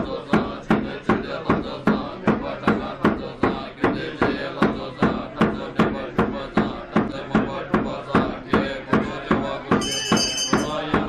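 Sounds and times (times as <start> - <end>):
monks chanting in unison: 0.0 - 11.0
frame drum beats: 0.3 - 11.0.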